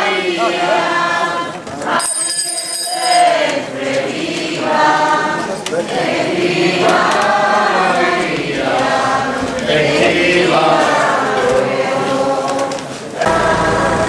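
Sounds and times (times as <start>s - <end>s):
crowd singing a chant: 0.0s - 14.0s.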